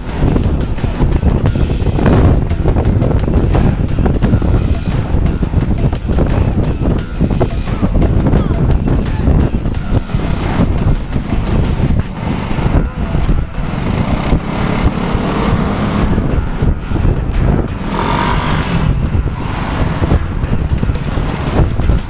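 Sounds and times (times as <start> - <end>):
road traffic with scooters: 0.0 - 22.0
wind rumbling on microphone: 0.0 - 22.0.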